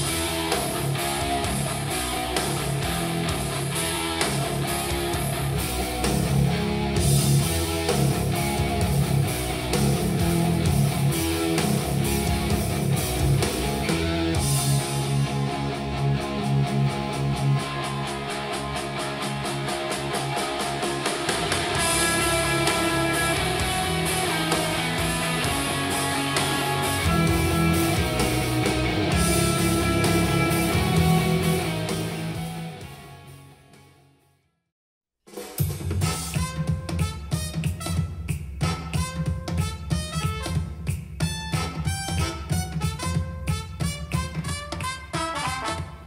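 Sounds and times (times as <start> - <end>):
rock music through speaker: 0.0 - 33.9, 35.5 - 46.0.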